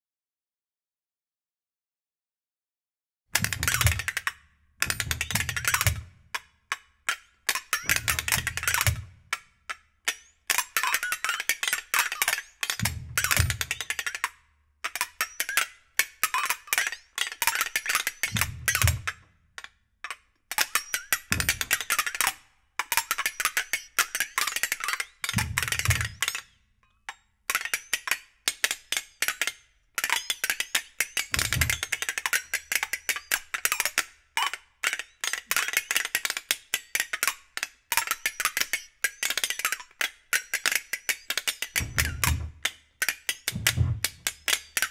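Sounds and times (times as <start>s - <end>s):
flexatones clicking and rattling: 3.4s - 44.9s.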